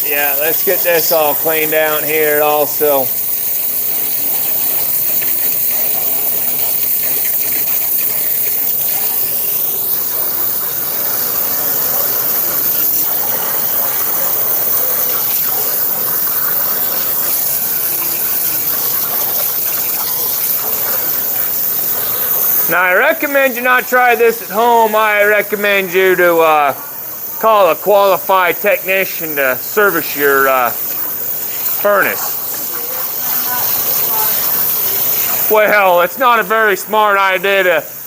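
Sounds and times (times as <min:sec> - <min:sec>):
water spraying on metal: 0:00.0 - 0:38.0.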